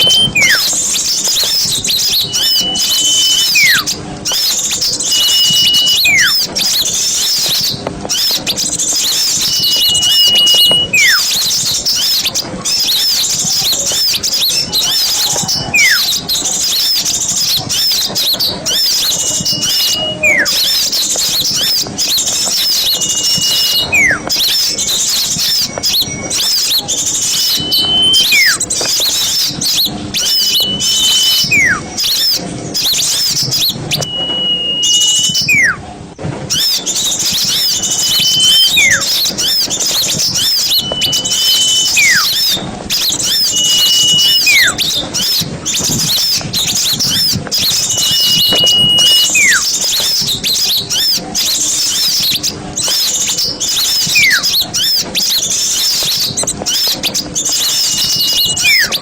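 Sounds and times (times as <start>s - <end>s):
bird whistle swooping down: 0.0s - 17.1s, 17.7s - 35.8s, 36.5s - 51.2s, 53.4s - 59.0s
songbirds trilling and chirping: 0.0s - 59.0s.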